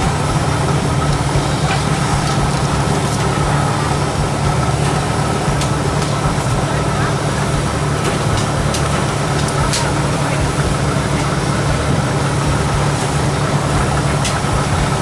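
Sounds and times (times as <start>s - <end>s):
machine hum: 0.0s - 15.0s
people talking: 0.0s - 15.0s.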